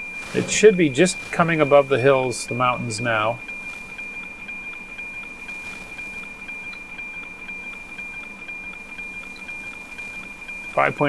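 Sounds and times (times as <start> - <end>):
background hiss: 0.0 - 11.0
high whistle-like tone: 0.0 - 11.0
regular ticking pulses: 0.0 - 11.0.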